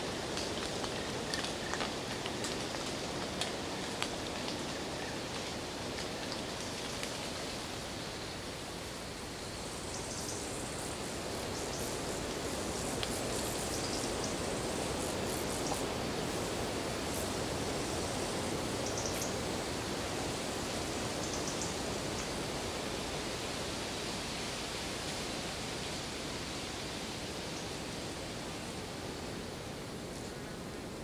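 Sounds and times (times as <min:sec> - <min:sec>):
forest rushing hiss: 0:00.0 - 0:31.0.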